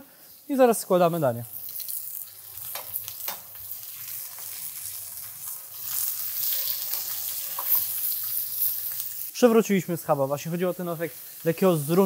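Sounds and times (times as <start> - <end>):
pork chop sizzling in a frying pan: 0.2 - 12.0.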